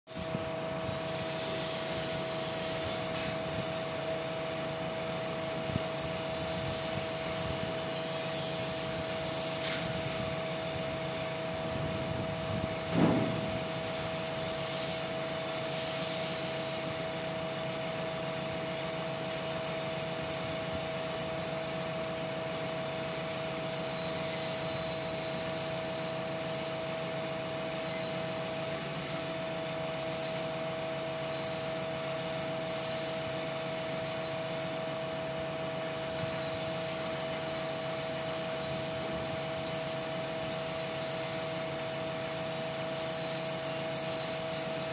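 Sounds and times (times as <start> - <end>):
machinery drone with whine: 0.1 - 44.9.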